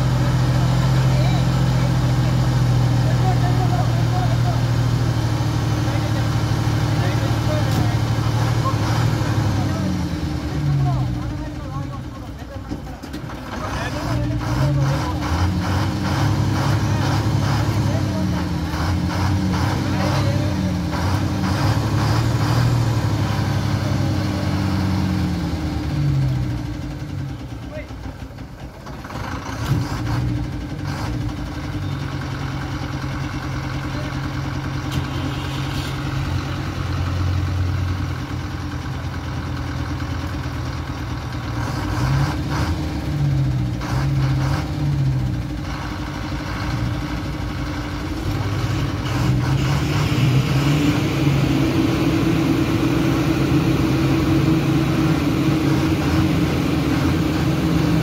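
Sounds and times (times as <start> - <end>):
lorry diesel engine: 0.0 - 58.0.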